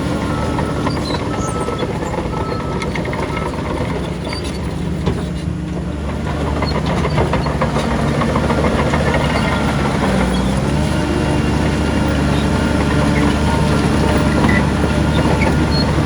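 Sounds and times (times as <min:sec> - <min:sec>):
diesel earthmoving machinery running: 0:00.0 - 0:16.0.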